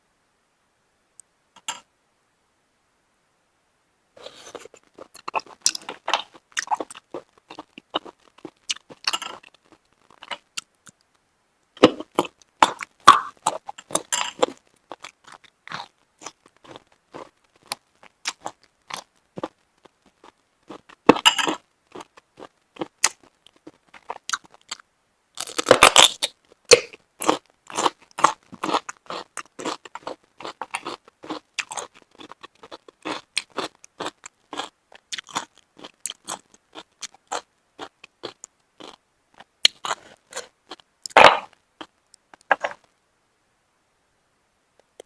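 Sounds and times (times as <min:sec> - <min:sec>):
chewing shellfish: 0:04.2 - 0:11.1, 0:11.8 - 0:24.8, 0:25.4 - 0:42.9.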